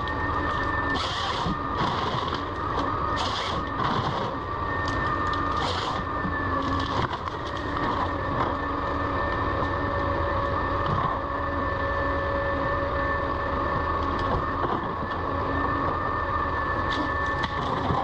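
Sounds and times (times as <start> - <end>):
harvester engine and hydraulics: 0.0 - 18.0.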